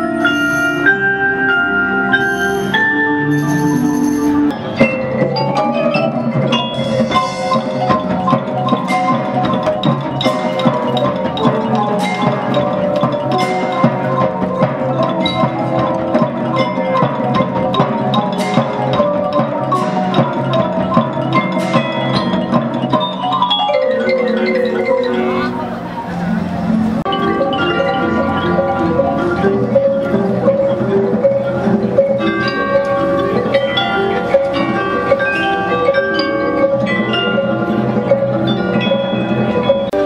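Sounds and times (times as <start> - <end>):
marimbas and xylophones playing: 0.0 - 40.0
sharp percussion strikes: 0.0 - 40.0.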